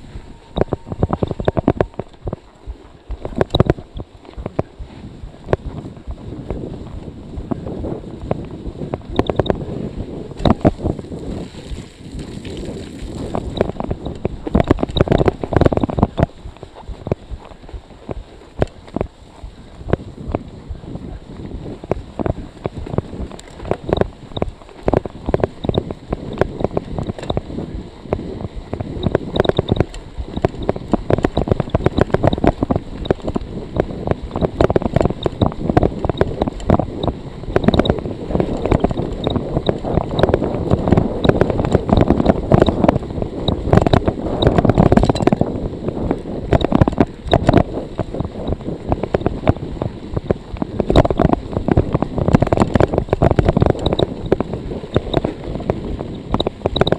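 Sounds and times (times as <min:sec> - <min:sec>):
bicycle tyres on snow: 0:00.0 - 0:56.9
bike rattling and clicking: 0:00.0 - 0:56.9
wind buffeting microphone: 0:00.0 - 0:56.9.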